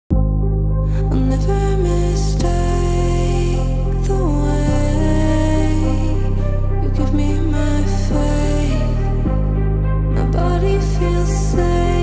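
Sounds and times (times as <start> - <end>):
music with held notes and bass: 0.1 - 12.0.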